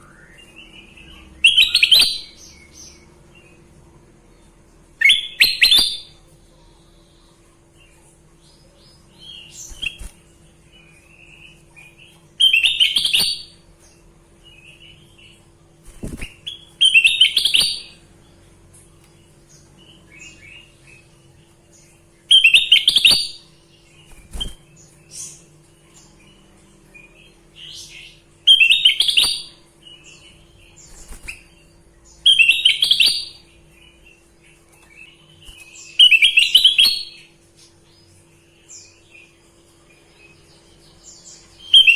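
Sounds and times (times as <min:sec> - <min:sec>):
bird singing: 0:00.0 - 0:03.8, 0:04.4 - 0:41.9
faint hum: 0:00.0 - 0:41.9
soft bird chirps: 0:00.0 - 0:41.9.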